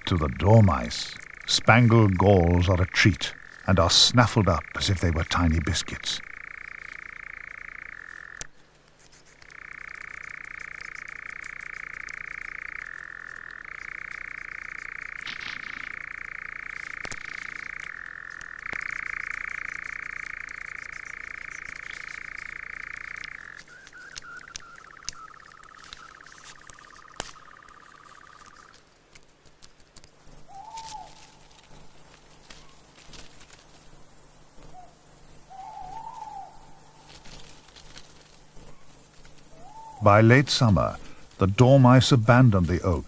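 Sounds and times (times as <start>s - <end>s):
faint rustles and ticks: 0.0s - 43.0s.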